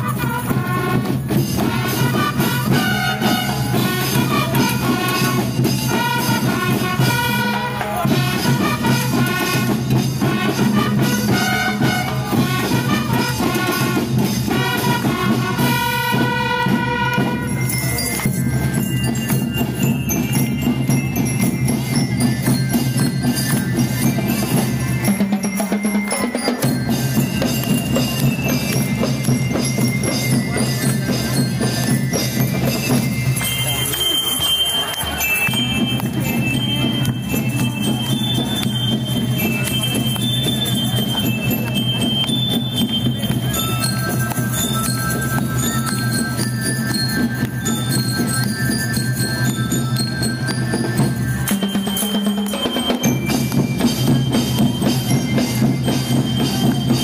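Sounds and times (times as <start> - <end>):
bell-like melody: 0.0 - 57.0
drums beating steadily: 0.0 - 57.0.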